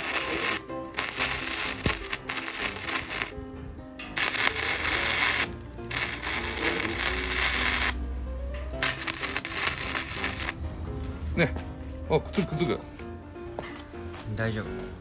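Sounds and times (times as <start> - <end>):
welder arc crackling: 0.0 - 12.5.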